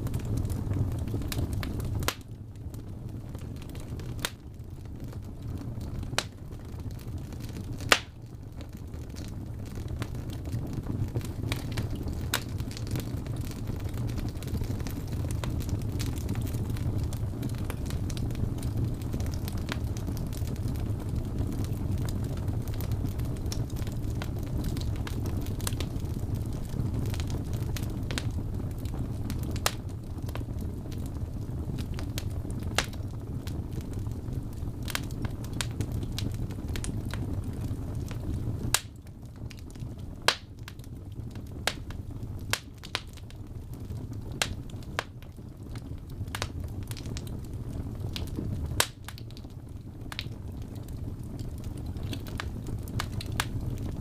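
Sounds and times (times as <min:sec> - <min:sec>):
low rumble of flame: 0:00.0 - 0:54.0
wood fire crackling and popping: 0:00.0 - 0:54.0.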